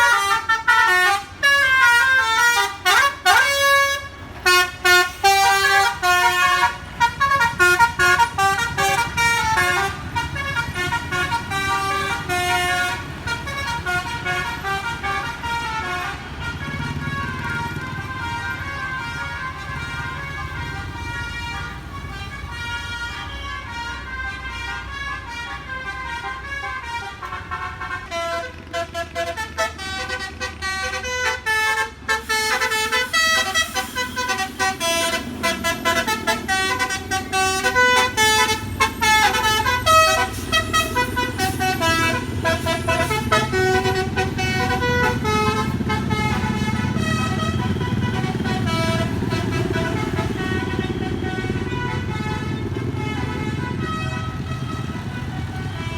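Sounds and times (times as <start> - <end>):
bus engine running: 0.0 - 55.9
multi-note air horn melody: 0.0 - 55.9.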